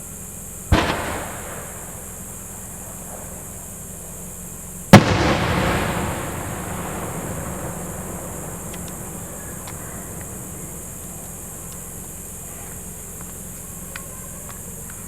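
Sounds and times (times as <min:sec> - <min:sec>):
rolling rumble echo: 0:00.2 - 0:15.0
firework shells bursting: 0:00.6 - 0:15.0.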